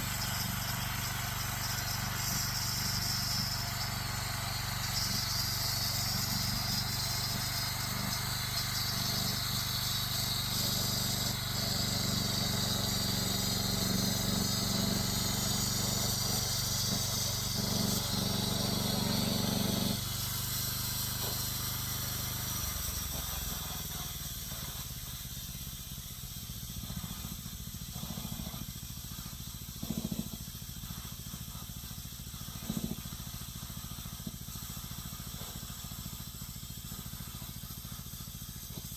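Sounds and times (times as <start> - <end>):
steady hiss: 0.0 - 18.2, 19.8 - 38.9
sawmill motor running: 0.0 - 38.9.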